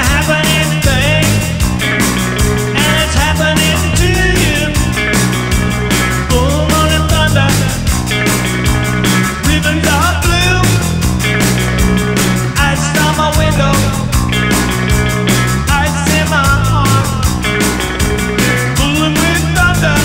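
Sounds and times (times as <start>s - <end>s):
drum kit beat: 0.0s - 20.0s
electric bass: 0.0s - 20.0s
electric guitars: 0.0s - 20.0s.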